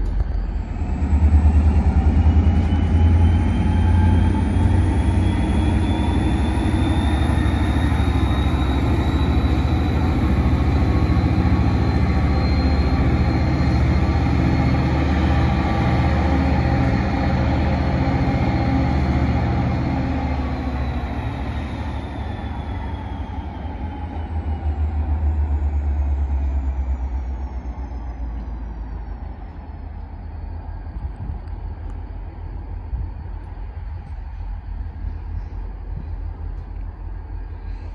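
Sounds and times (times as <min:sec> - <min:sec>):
diesel locomotive engine rumble: 0:00.0 - 0:37.9
turbocharger whine: 0:00.0 - 0:37.9.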